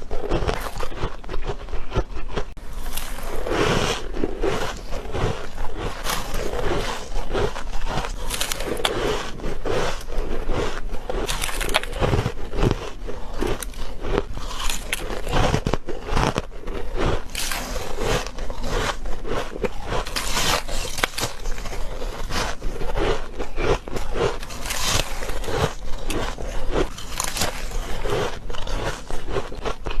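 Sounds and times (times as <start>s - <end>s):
crunchy squeaky frost chewing: 0.0s - 30.0s.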